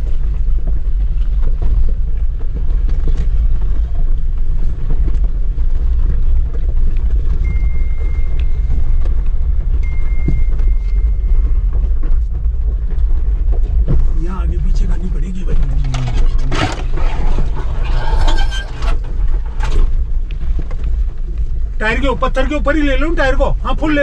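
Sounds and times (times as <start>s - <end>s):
engine and drivetrain rumble: 0.0s - 24.0s.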